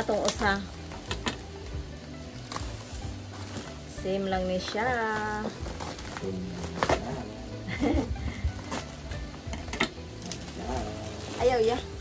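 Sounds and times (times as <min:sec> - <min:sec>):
background music: 0:00.0 - 0:12.0
plastic wrapping rustling: 0:00.0 - 0:12.0.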